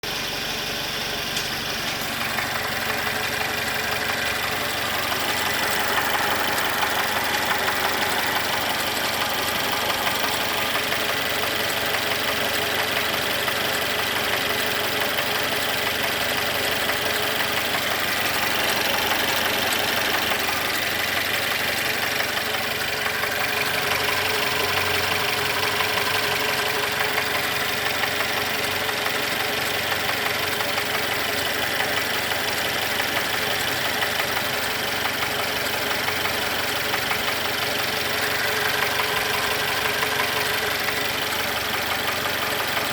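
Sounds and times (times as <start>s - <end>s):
car engine idling with knock: 0.0s - 42.9s.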